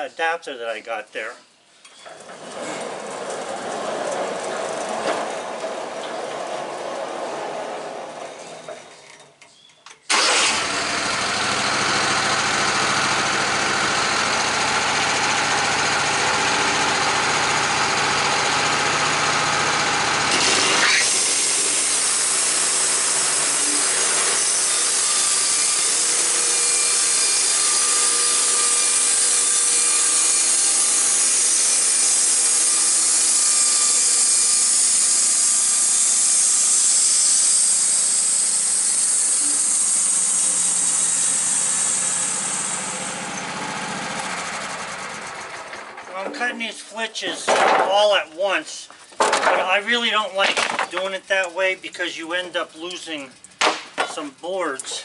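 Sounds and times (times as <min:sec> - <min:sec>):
sawmill cutting wood: 0:10.1 - 0:55.0
sawmill engine running: 0:10.1 - 0:55.0.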